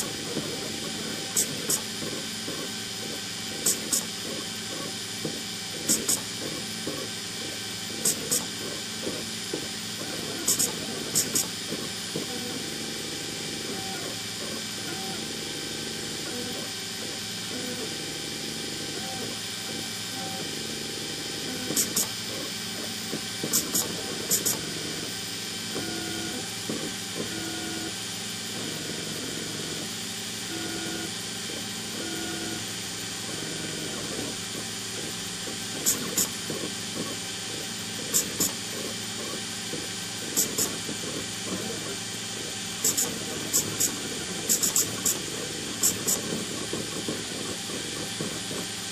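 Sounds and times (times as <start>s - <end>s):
stepper motors whining: 0.0s - 48.9s.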